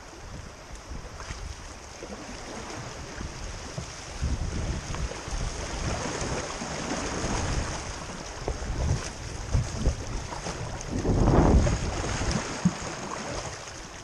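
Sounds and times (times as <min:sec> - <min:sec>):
creek water rushing: 0:00.0 - 0:14.0
paddle strokes in water: 0:00.0 - 0:14.0.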